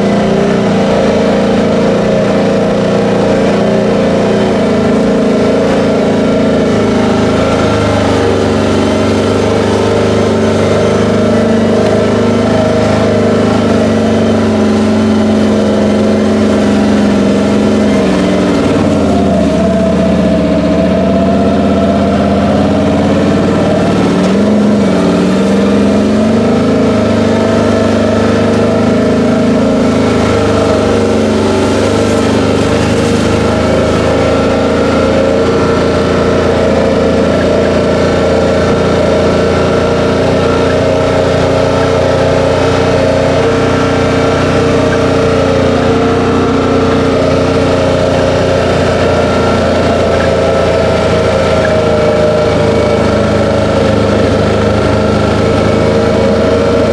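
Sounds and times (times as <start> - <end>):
off-road vehicle engine running: 0.0 - 56.9.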